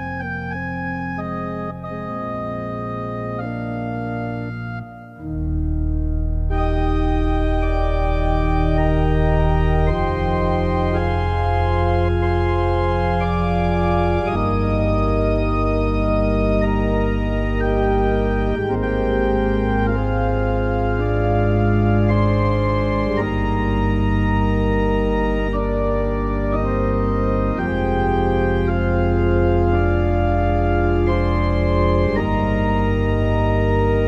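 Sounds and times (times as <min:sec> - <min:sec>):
organ playing chords: 0:00.0 - 0:34.0.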